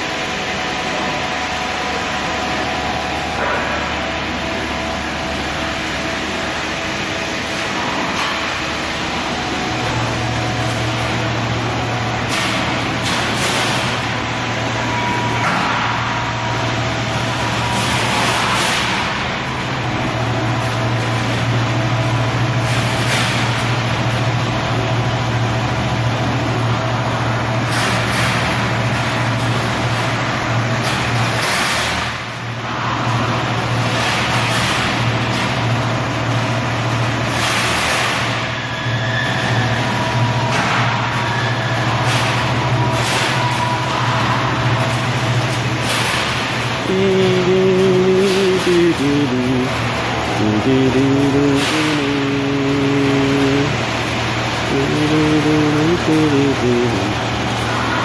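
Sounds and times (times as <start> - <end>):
spring coiling machine running: 0.1 - 58.0.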